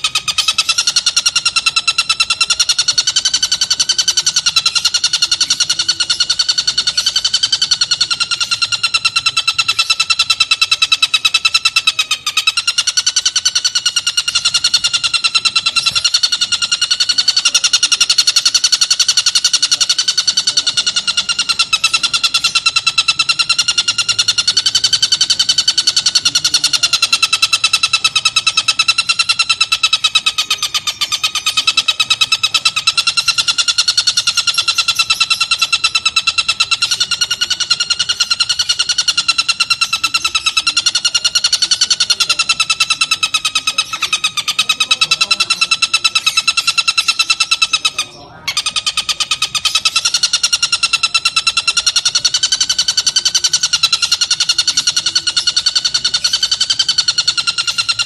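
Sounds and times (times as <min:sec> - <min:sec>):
bird rattling chatter: 0:00.0 - 0:58.0.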